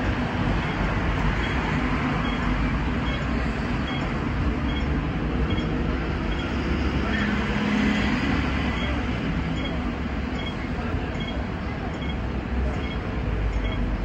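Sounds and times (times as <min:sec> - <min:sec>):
passing street traffic: 0:00.0 - 0:14.0
tram rumble: 0:00.0 - 0:14.0.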